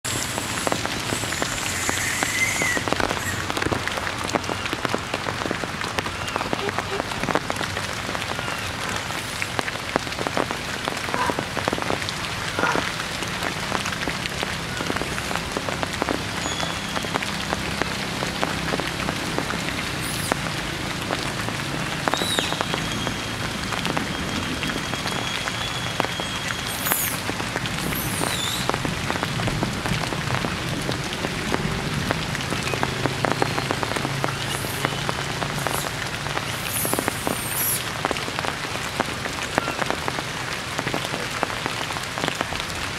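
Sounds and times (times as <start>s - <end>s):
heavy rain on leaves: 0.0s - 42.9s.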